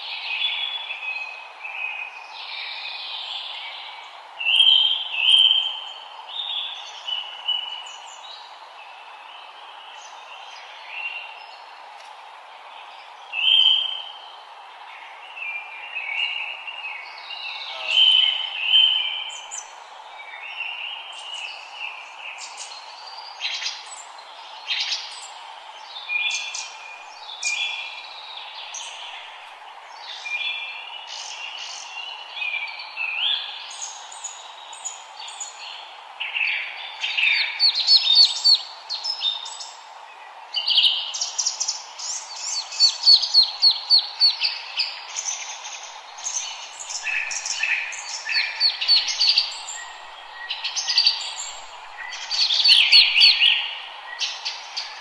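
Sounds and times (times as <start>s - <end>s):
songbirds singing and calling: 0.0s - 55.0s
steady background hiss: 0.0s - 55.0s.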